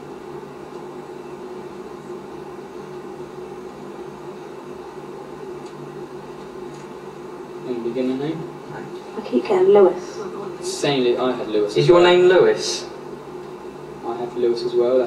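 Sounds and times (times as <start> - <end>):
steady low hum with hiss: 0.0 - 15.0.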